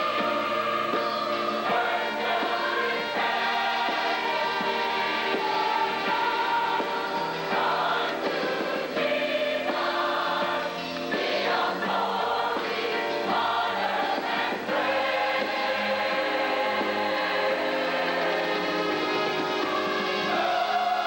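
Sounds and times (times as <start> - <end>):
choir singing hymn: 0.0 - 21.0.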